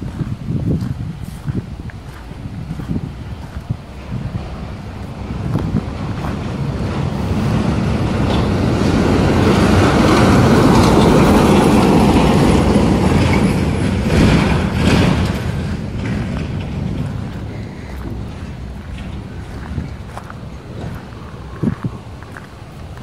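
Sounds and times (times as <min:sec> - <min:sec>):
truck driving past: 0:01.8 - 0:23.0.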